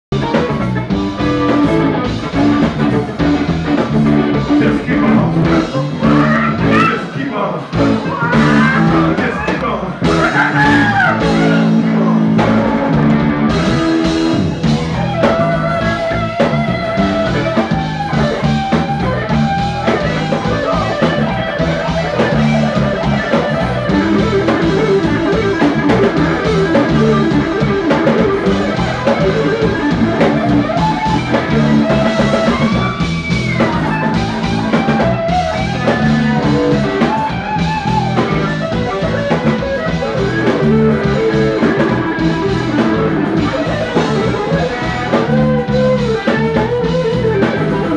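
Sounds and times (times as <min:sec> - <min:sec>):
bass guitar: 0:00.0 - 0:47.9
electric guitar: 0:00.0 - 0:47.9
drum kit: 0:00.1 - 0:47.9.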